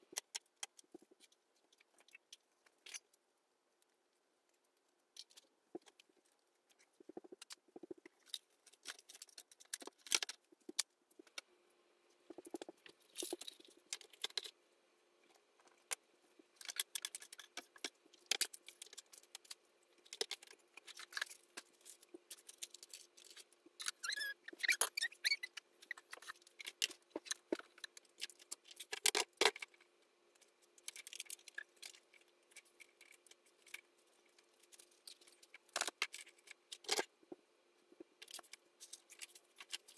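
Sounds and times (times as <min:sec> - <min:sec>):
faint steady hum: 0:00.0 - 0:39.9
small objects clicking and rattling: 0:00.1 - 0:03.2, 0:04.5 - 0:11.5, 0:12.3 - 0:14.6, 0:15.2 - 0:37.4, 0:38.0 - 0:39.9.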